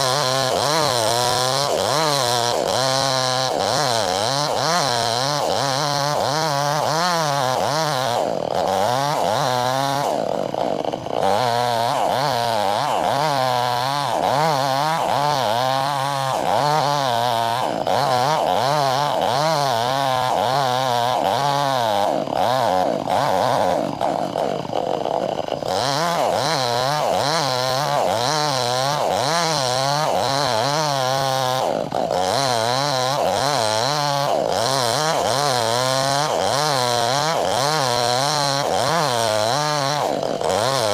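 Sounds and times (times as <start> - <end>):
chainsaw cutting a log: 0.0 - 40.9.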